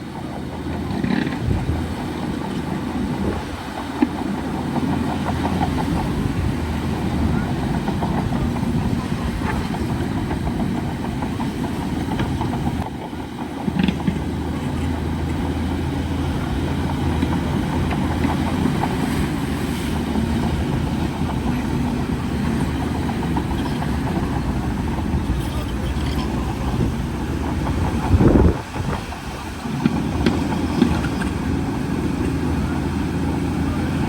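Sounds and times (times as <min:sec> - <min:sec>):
bulldozer diesel engine rumbling: 0:00.0 - 0:34.0.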